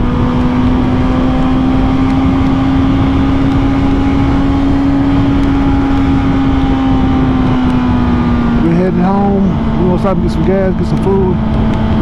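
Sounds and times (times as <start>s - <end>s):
heavy wind rush: 0.0s - 12.0s
motorcycle engine cruising: 0.0s - 12.0s.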